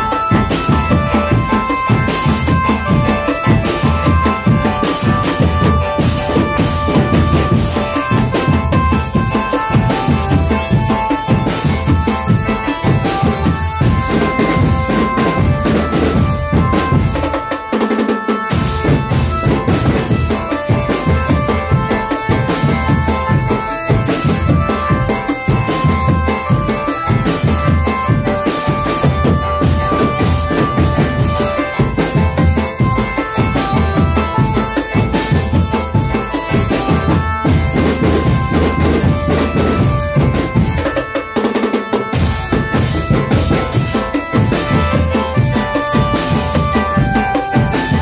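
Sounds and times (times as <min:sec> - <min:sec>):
drumband playing fast beat: 0:00.0 - 0:48.0.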